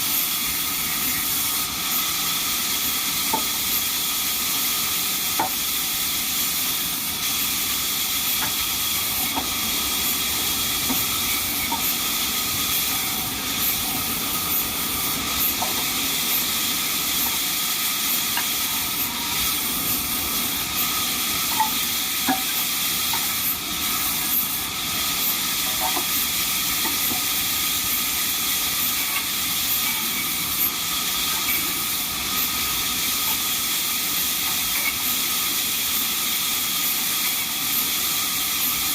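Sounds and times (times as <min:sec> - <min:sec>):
sawmill machinery hiss: 0:00.0 - 0:38.9.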